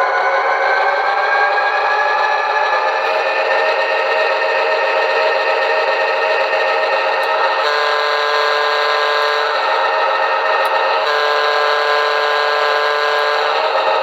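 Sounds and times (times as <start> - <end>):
diesel engine sound through speaker: 0.0 - 14.0.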